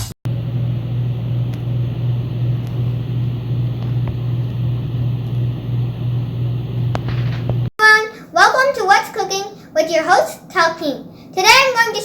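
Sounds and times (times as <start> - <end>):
steady low hum: 0.3 - 12.0.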